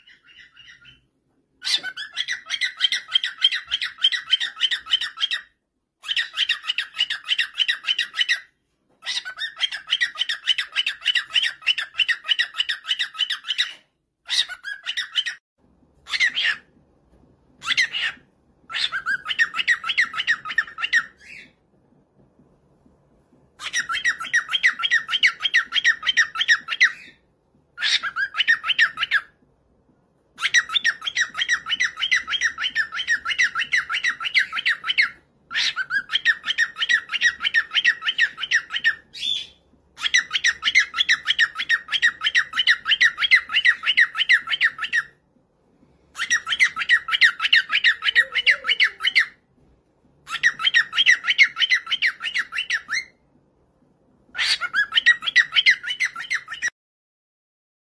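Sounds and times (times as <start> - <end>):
cockatiel calling: 0.0 - 15.4, 16.0 - 16.7, 17.6 - 21.6, 23.6 - 27.2, 27.8 - 29.4, 30.4 - 45.2, 46.1 - 49.4, 50.2 - 53.2, 54.3 - 56.7.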